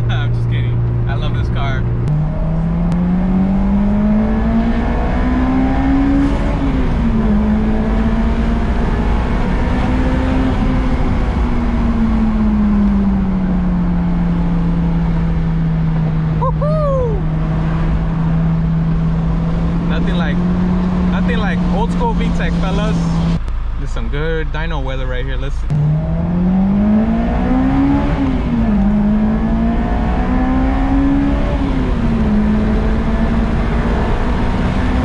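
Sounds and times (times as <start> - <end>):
car engine revving in cabin: 0.1 - 23.4, 25.6 - 35.0.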